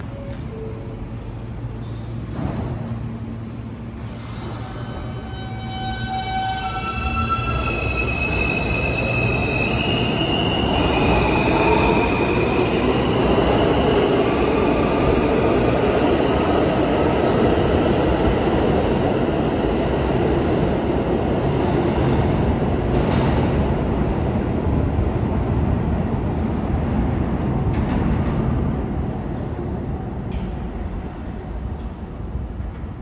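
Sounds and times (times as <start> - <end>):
rumble of wheels on rail: 0.0 - 33.0.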